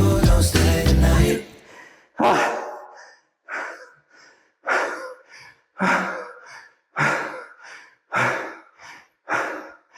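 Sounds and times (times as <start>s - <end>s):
person panting hard: 1.7s - 9.9s.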